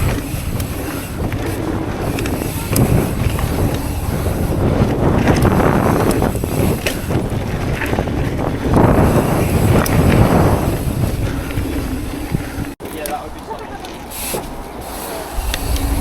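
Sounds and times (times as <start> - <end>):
wind buffeting microphone: 0.0 - 12.8, 15.3 - 16.0.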